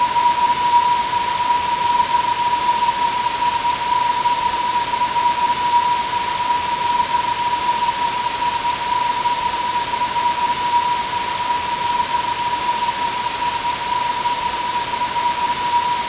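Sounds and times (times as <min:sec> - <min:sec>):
thin steady tone: 0:00.0 - 0:16.0.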